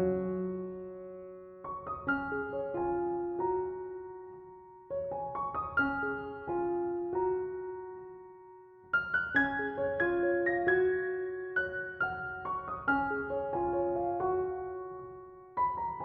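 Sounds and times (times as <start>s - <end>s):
soft solo piano: 0.0s - 16.0s.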